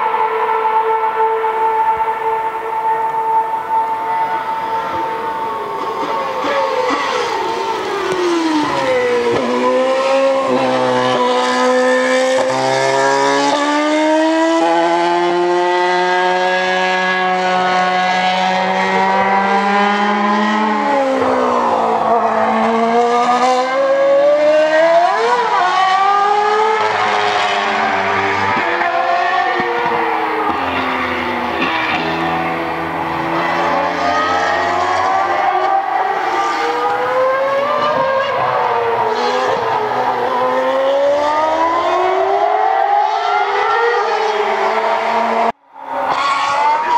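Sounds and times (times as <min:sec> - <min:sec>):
racing car engines at high revs: 0:00.0 - 0:46.9.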